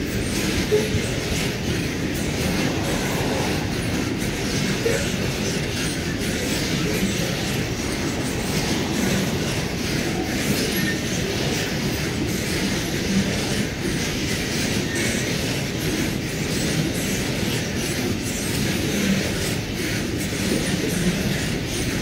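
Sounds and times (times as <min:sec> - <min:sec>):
steel wheels running on rails: 0:00.0 - 0:22.0.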